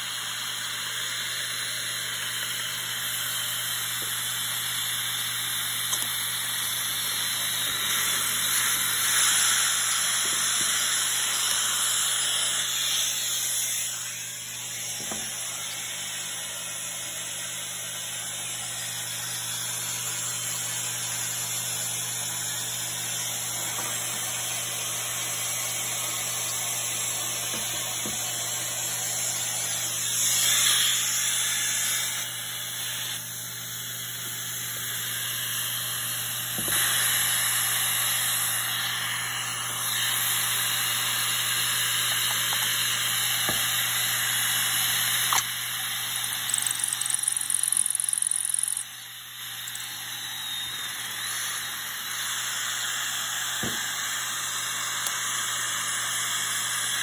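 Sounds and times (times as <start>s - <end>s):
cordless drill boring: 0.0s - 57.0s
dust extractor hiss and hum: 0.0s - 57.0s.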